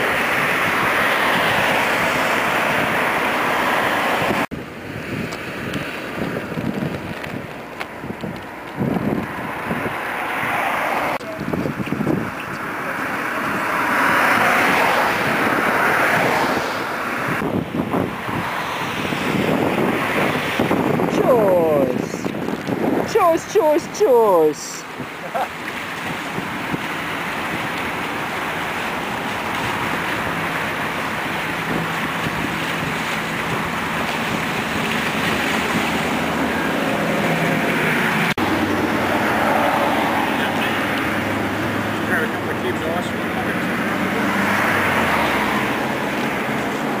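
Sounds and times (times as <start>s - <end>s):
road traffic: 0.0s - 47.0s
wind buffeting microphone: 0.0s - 47.0s.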